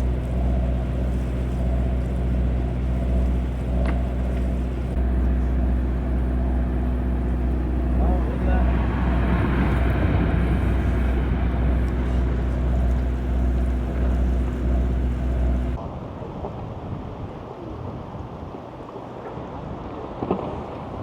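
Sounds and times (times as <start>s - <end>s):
boat engine droning: 0.0s - 21.0s
water noise: 0.0s - 21.0s
wind: 0.0s - 21.0s.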